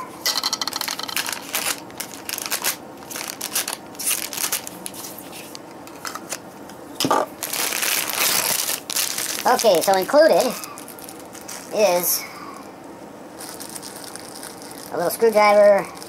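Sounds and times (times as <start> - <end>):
packaging crinkling: 0.6 - 6.4, 7.0 - 12.1, 13.4 - 16.0.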